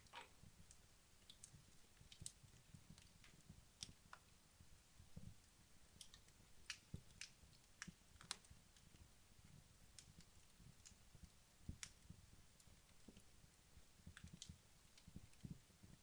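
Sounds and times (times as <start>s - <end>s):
low rumble of fire: 0.0s - 16.0s
wood fire crackling and popping: 0.0s - 16.0s.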